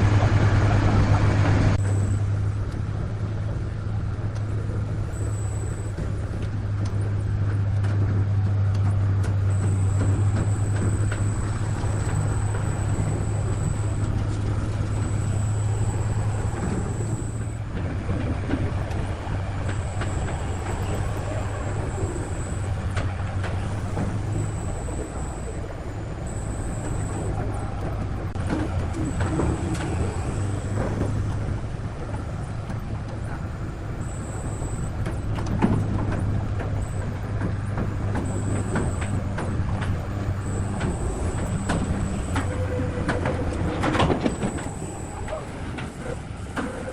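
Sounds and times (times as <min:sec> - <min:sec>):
heavy machinery humming: 0:00.0 - 0:46.9.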